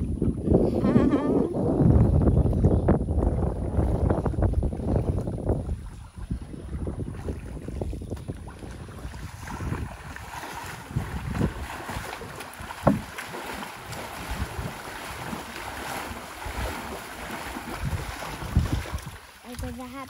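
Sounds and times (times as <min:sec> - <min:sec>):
wind buffeting microphone: 0:00.0 - 0:20.0
water sloshing and splashing: 0:02.4 - 0:20.0.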